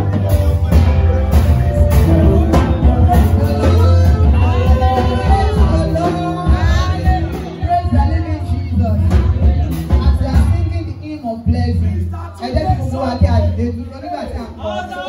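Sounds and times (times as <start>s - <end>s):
person singing: 0.0s - 13.4s
live band music: 0.0s - 15.0s.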